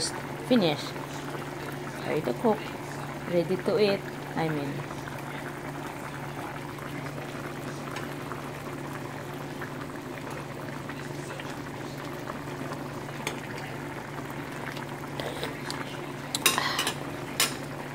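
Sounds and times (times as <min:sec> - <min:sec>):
stew bubbling in a pan: 0:00.0 - 0:17.9.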